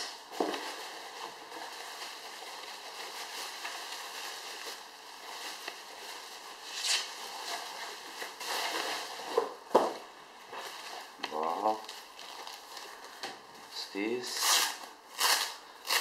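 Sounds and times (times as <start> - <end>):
bubble wrap rustling and crinkling: 0.0 - 16.0.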